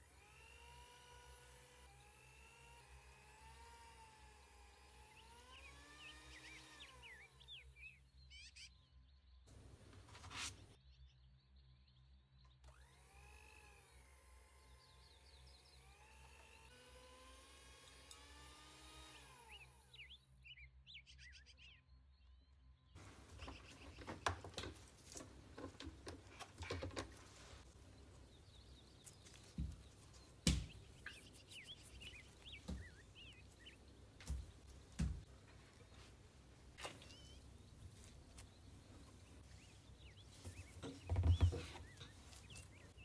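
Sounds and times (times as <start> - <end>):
faint birds chirping: 0.0 - 43.0.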